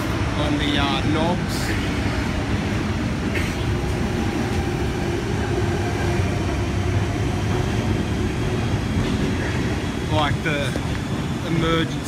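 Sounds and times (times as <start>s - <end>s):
passenger train rumbling on rails: 0.0s - 12.0s.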